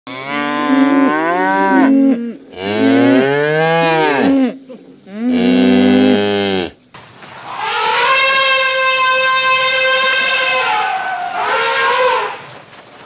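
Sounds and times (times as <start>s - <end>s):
cows mooing: 0.1s - 6.8s, 7.4s - 12.7s.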